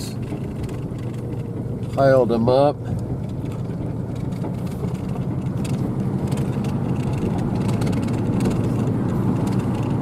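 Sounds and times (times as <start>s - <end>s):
light rattles and clicks: 0.0s - 10.0s
vehicle engine and road drone: 0.0s - 10.0s.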